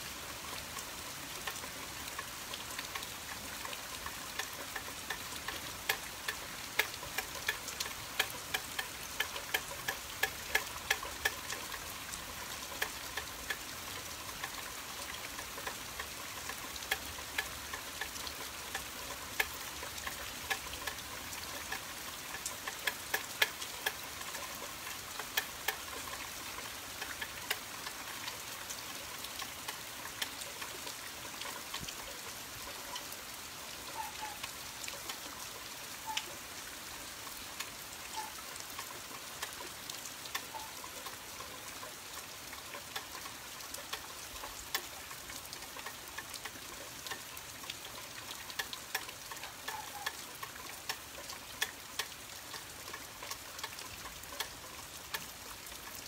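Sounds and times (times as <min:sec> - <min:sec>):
rain falling: 0:00.0 - 0:56.0
raindrops tapping: 0:00.0 - 0:56.0.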